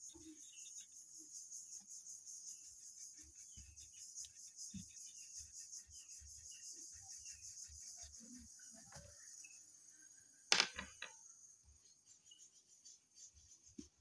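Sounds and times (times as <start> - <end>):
insects chirring: 0.0 - 13.6.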